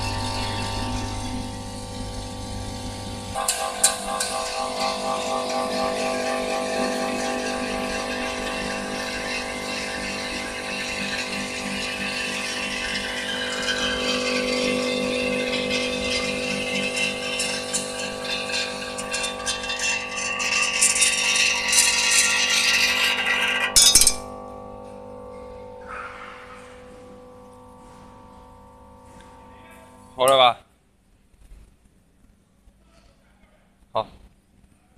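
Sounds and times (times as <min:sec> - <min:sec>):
vibrator humming: 0:00.0 - 0:30.3.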